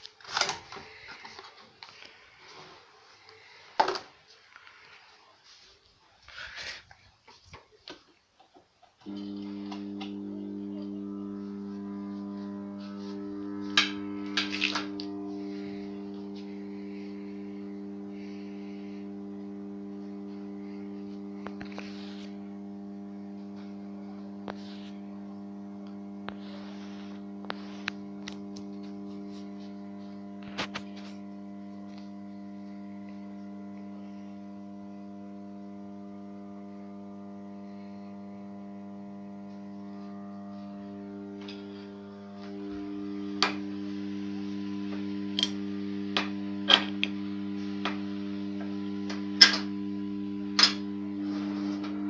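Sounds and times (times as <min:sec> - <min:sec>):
electrical ballast hum: 0:06.3 - 0:52.0.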